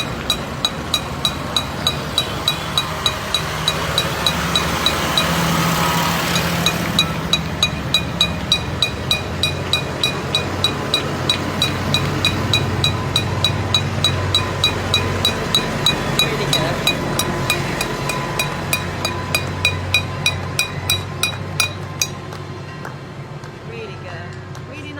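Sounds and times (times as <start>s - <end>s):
sharp regular ticking: 0.0s - 22.3s
tractor engine running: 0.0s - 22.4s.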